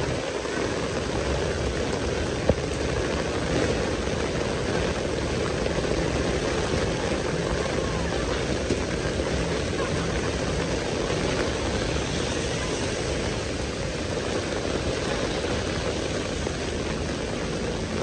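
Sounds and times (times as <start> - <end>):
cars passing on wet street: 0.0 - 18.0
heavy rain on pavement: 0.0 - 18.0.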